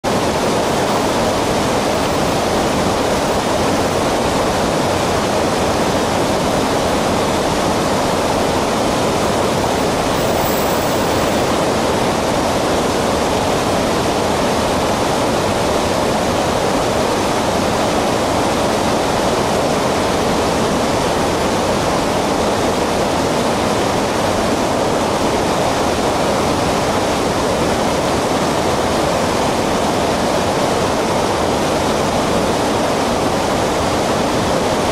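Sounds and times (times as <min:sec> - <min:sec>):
river water rushing over stones: 0:00.0 - 0:34.9.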